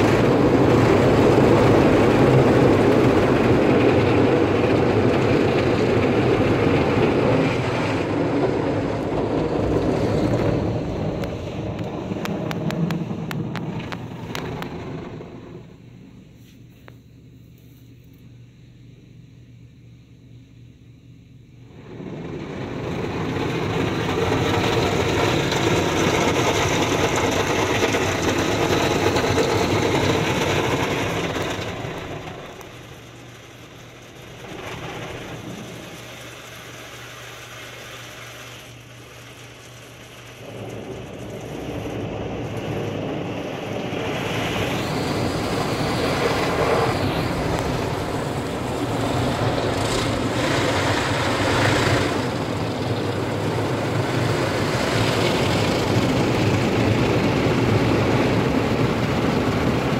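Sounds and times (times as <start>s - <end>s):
car wash water jets spraying: 0.0s - 16.0s, 21.7s - 59.9s
low steady hum: 0.0s - 59.9s.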